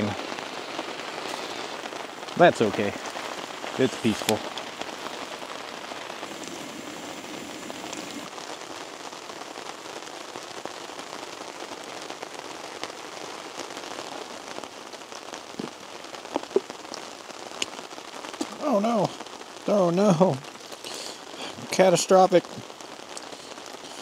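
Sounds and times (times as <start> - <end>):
steady rain pattering: 0.0 - 24.0.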